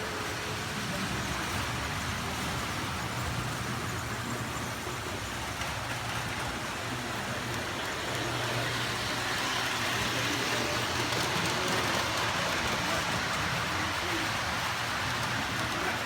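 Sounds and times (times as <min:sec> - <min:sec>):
model trains whirring: 0:00.0 - 0:16.0.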